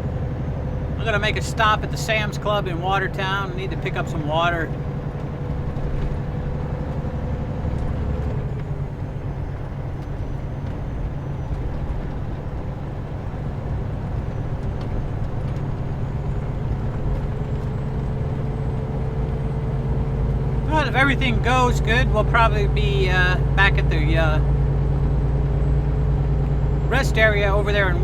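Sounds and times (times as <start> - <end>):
road noise: 0.0 - 28.0
truck diesel engine drone: 0.0 - 28.0.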